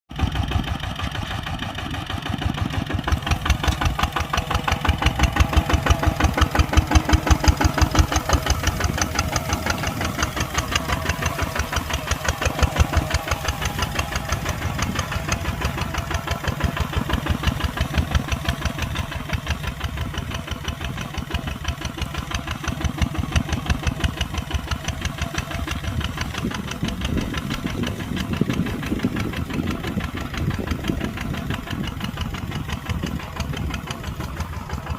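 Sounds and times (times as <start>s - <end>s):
diesel engine chugging: 0.1s - 34.9s.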